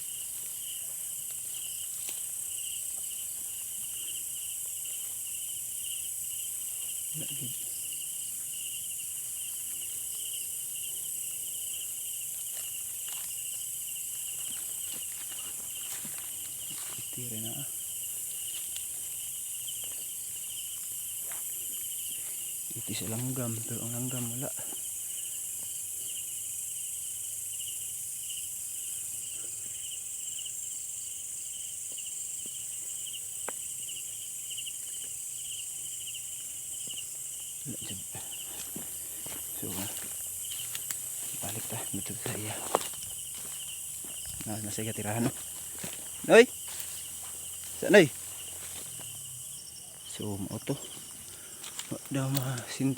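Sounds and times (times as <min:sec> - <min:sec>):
crickets trilling: 0:00.0 - 0:52.9
high-pitched insect hiss: 0:00.0 - 0:52.9.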